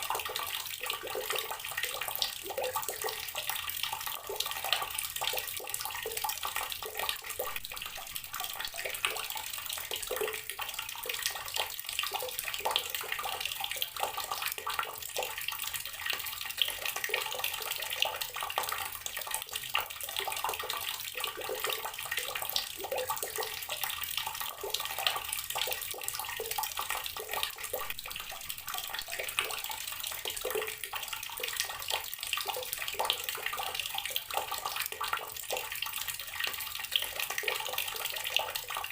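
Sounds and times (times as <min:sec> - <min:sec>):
water tap running and splashing: 0:00.0 - 0:38.9.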